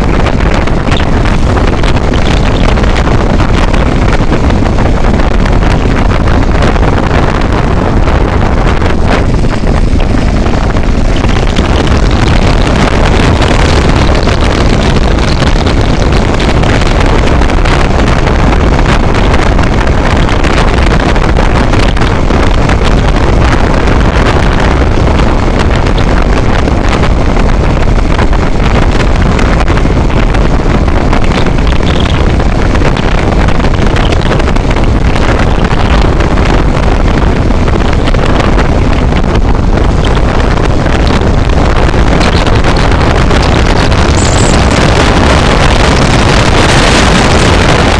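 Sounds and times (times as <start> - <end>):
vehicle running noise: 0.0 - 47.9
wind rushing over microphone: 0.0 - 47.9.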